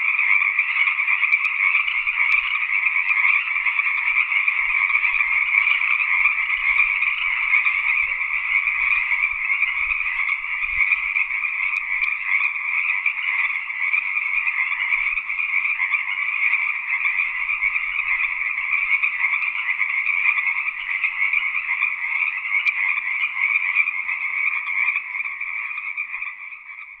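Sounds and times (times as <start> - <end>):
chorus of frogs trilling: 0.0 - 27.0.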